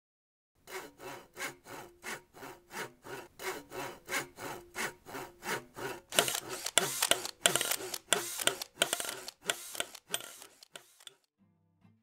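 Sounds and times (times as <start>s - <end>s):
hand saw cutting wood: 0.6s - 11.3s.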